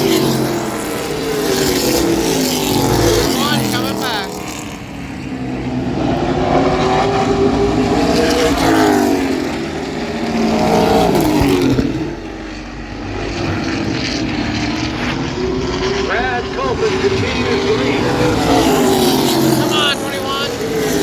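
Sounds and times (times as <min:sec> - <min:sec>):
race truck engines passing: 0:00.0 - 0:21.0.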